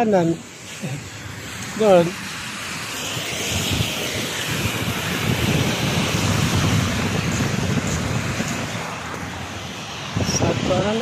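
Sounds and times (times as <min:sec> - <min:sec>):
car tyres hissing through water: 0:00.4 - 0:11.0
wind buffeting microphone: 0:01.0 - 0:11.0.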